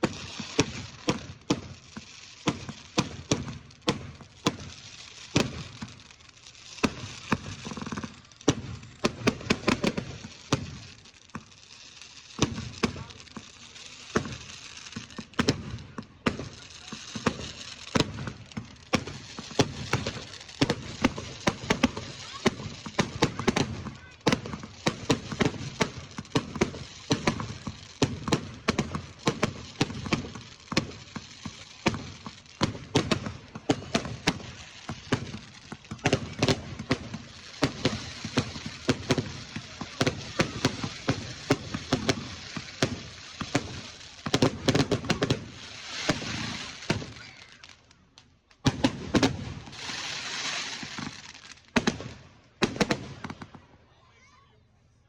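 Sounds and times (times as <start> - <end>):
fireworks bangs: 0.0 - 47.9, 48.5 - 53.6
fireworks crackling: 0.0 - 54.5.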